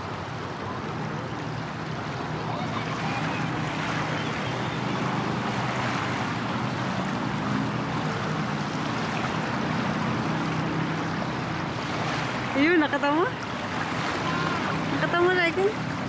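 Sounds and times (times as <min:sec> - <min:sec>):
river water rippling: 0:00.0 - 0:16.0.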